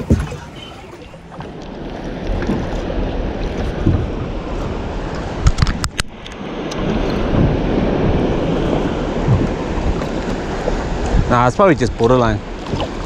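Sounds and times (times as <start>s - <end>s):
water washing against hull: 0.0s - 13.0s
wind buffeting microphone: 0.0s - 13.0s.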